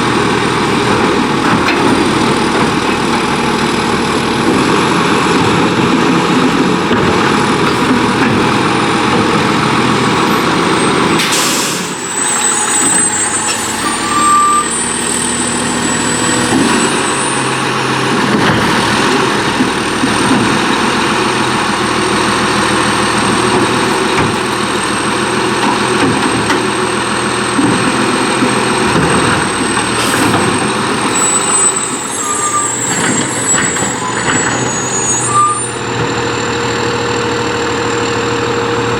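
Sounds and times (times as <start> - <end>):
garbage truck diesel engine: 0.0 - 38.9.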